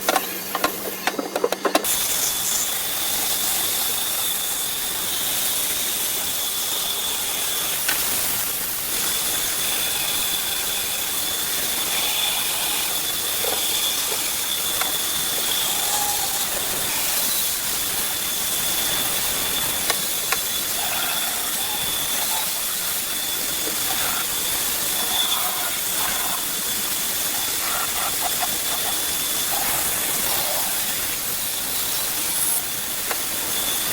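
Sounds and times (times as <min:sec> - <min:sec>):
power tool whining: 0:05.8 - 0:33.9.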